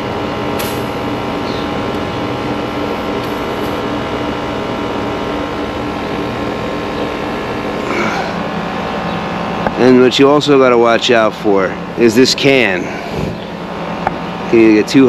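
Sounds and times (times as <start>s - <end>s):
air conditioning unit humming: 0.0s - 15.0s.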